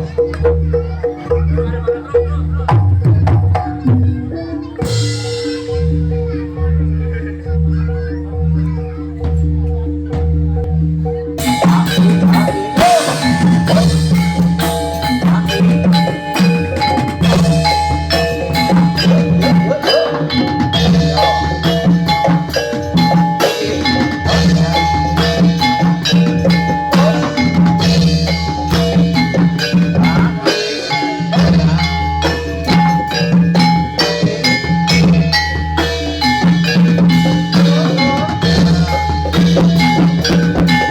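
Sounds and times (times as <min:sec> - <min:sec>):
drums: 0:00.0 - 0:40.9
gamelan music: 0:00.0 - 0:40.9
metal-keyed mallet instruments: 0:00.0 - 0:40.9.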